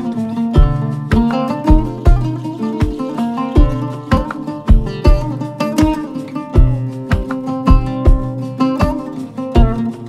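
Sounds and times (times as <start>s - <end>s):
plucked string instrument: 0.0s - 10.0s
steady low beat: 0.0s - 10.0s.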